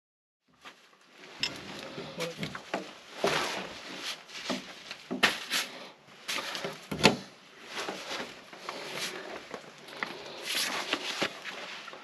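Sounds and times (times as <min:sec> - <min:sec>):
person crawling rustling scraping: 0:00.7 - 0:12.0.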